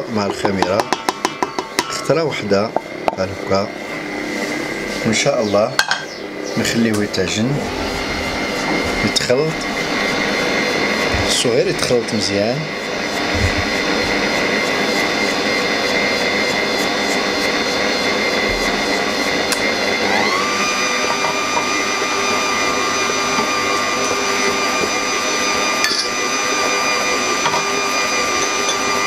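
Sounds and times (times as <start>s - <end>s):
stand mixer motor whining: 0.0s - 29.0s.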